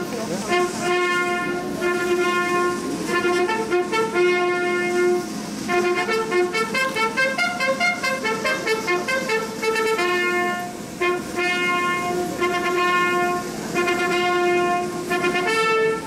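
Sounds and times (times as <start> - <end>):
brass band playing march: 0.3 - 16.0.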